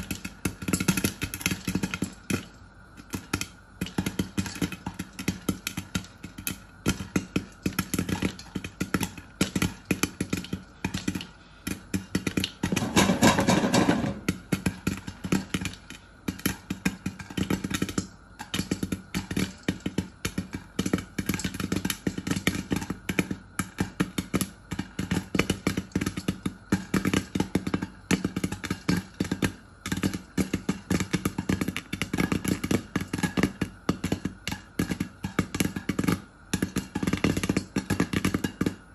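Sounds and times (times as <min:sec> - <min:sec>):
popcorn popping in a pan: 0:00.0 - 0:38.9.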